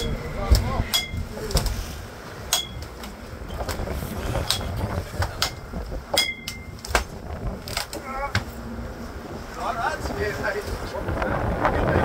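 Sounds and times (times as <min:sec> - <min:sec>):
boat engine rumble: 0:00.0 - 0:12.0
wind: 0:00.0 - 0:12.0.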